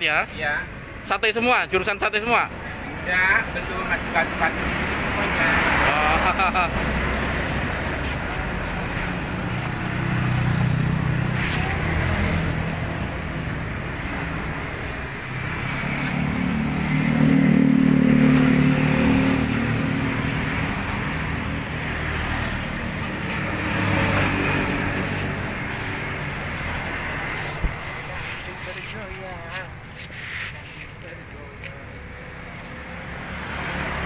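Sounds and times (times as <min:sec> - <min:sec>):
cars and motorcycles passing: 0:00.0 - 0:34.0.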